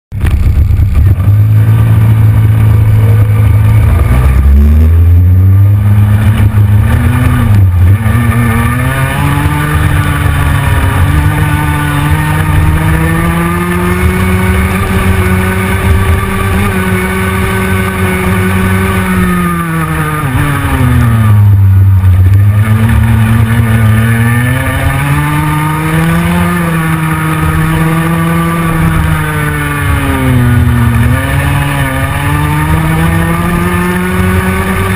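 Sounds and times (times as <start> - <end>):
go-kart engine: 0.1 - 34.9.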